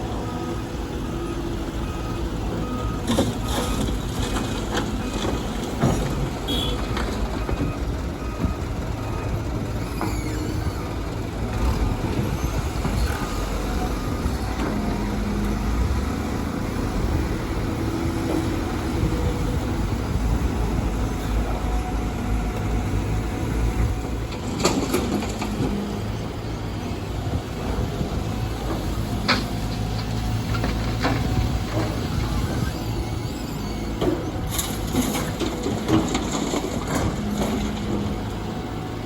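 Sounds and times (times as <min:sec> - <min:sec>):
diesel machinery rumbling: 0:00.0 - 0:39.0.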